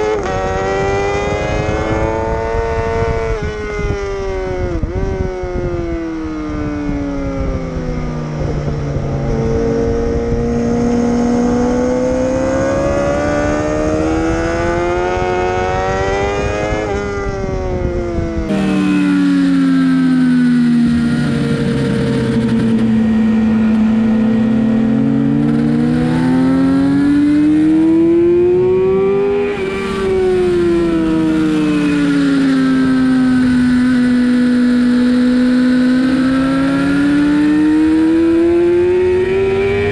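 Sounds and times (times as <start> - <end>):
wind rumble on microphone: 0.0 - 18.8, 19.9 - 39.9
motorcycle engine revving: 0.0 - 39.9.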